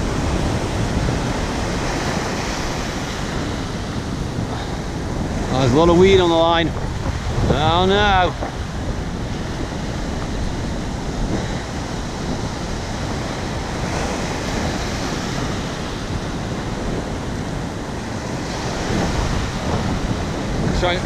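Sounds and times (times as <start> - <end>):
ocean surf breaking on beach: 0.0 - 21.0
wind buffeting microphone: 0.0 - 21.0.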